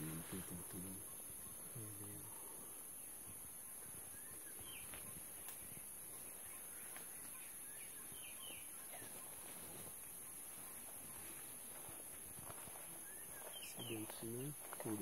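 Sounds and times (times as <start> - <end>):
steady high hiss: 0.0 - 8.8, 9.4 - 15.0
bird chirps: 0.0 - 15.0.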